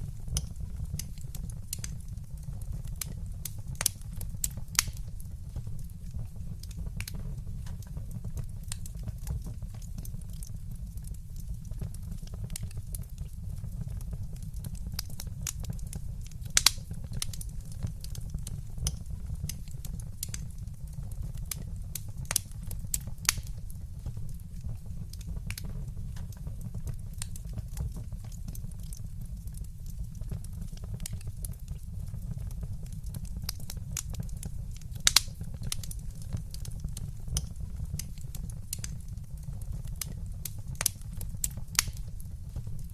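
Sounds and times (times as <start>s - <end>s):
fire snapping: 0.0s - 42.9s
wood fire crackling: 0.0s - 42.9s.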